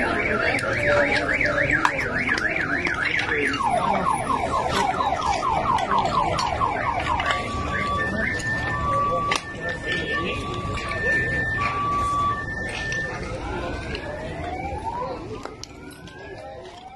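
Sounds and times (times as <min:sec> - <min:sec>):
car alarm: 0:00.0 - 0:16.9.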